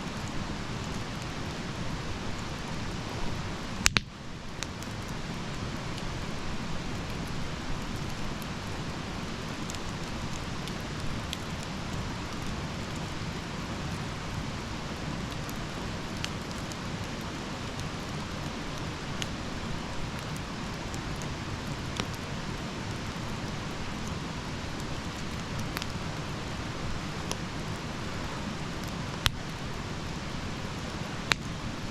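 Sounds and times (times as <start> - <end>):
fire crackles and pops: 0.0 - 31.9
flames hissing and rumbling: 0.0 - 31.9.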